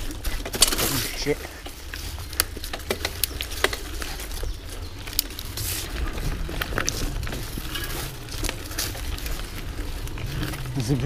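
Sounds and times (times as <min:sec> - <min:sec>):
bike clicks and rattles: 0:00.0 - 0:11.0
low rumble: 0:00.0 - 0:11.0.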